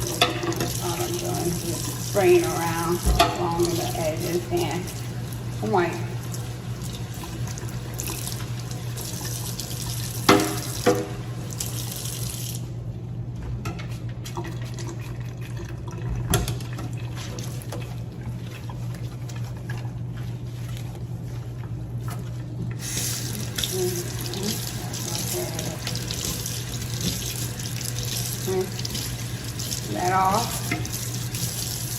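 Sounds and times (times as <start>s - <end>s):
water running from tap: 0.0s - 12.7s, 14.4s - 19.8s, 22.7s - 31.9s.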